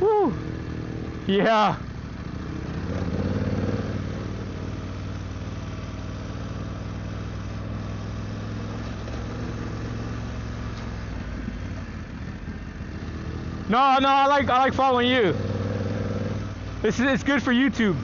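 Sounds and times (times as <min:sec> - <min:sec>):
motorcycle engine running: 0:00.0 - 0:18.0
tyre and trail noise: 0:00.0 - 0:18.0.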